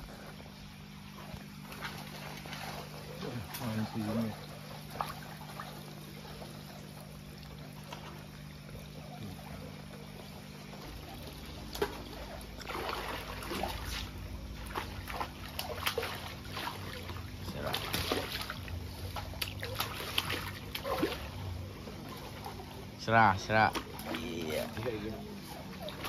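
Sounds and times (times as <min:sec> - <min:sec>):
steady low hum: 0:00.0 - 0:26.0
fish splashing at water surface: 0:01.1 - 0:26.0.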